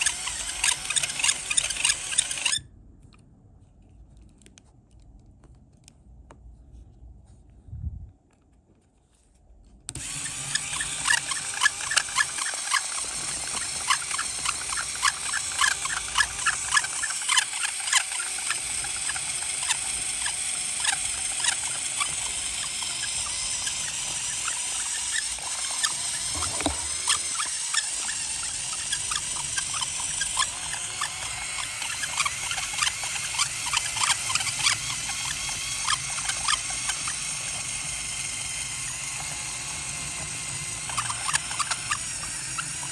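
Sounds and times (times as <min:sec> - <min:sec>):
plastic gears squeaking and clicking: 0:00.0 - 0:02.7, 0:09.9 - 0:42.9.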